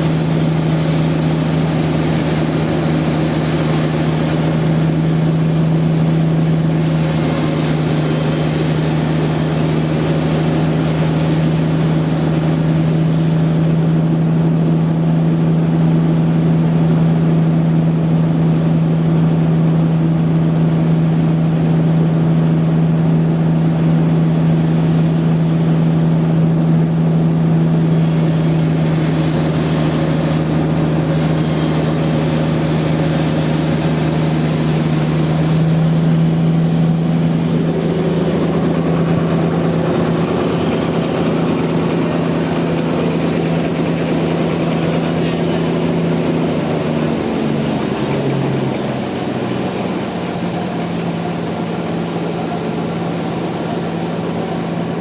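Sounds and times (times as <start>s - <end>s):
sawmill machinery motor hum: 0.0s - 55.0s.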